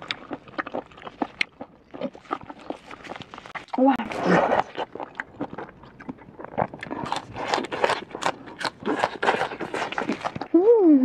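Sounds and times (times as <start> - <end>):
chewing crisp raw stalks: 0.0 - 10.7.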